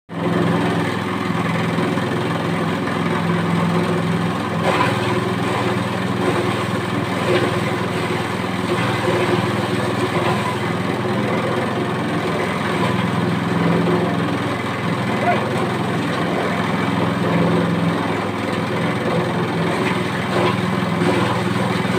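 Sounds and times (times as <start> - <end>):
small engine running steadily: 0.1 - 21.9.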